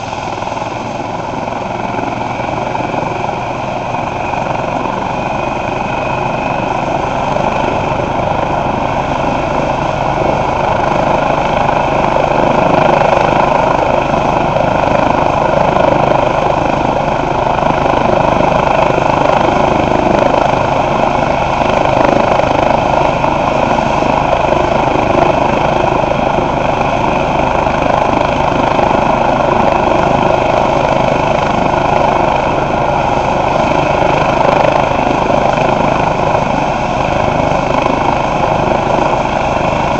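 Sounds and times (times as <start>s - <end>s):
helicopter engines and rotors: 0.0s - 39.9s.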